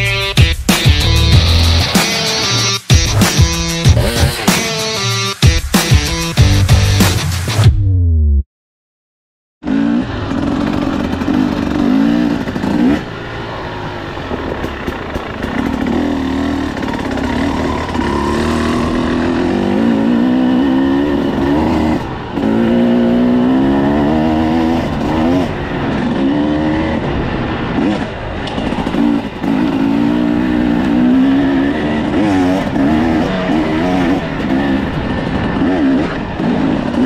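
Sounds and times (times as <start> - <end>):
dirt bike engine revving: 1.0 - 5.0, 9.6 - 37.0.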